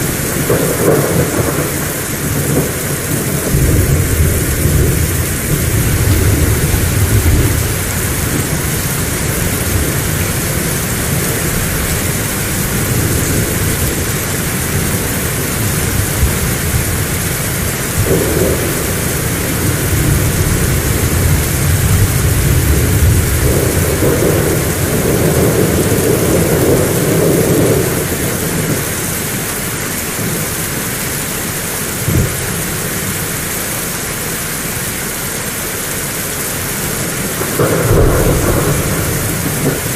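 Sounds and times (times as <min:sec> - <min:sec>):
thunder rumbling: 0:00.0 - 0:35.0, 0:36.0 - 0:39.9
heavy rain: 0:00.0 - 0:39.9.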